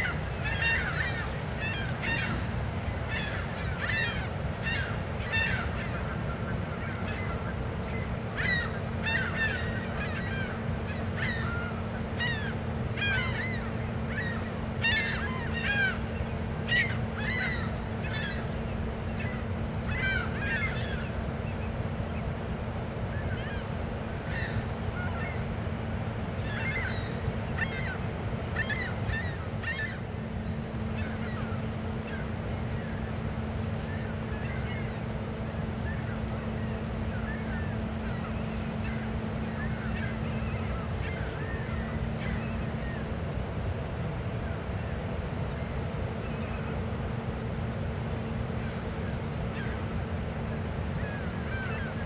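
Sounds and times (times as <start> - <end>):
birds calling: 0.0 - 52.0.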